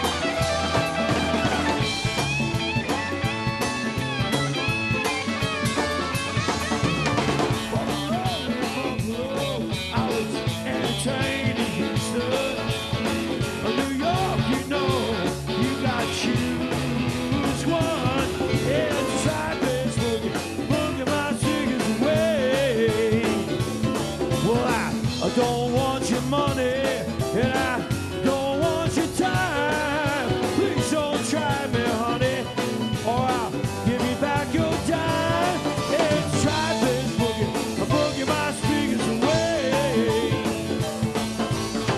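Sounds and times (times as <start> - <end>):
bass: 0.0 - 41.9
drums with steady beat: 0.0 - 41.9
electric guitars: 0.0 - 41.9
keyboards: 0.0 - 41.9.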